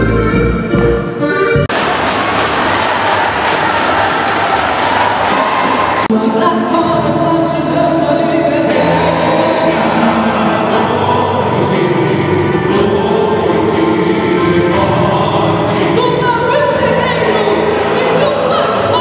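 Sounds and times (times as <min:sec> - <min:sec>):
instrumental backing: 0:00.0 - 0:18.6
group of voices singing: 0:01.7 - 0:19.0.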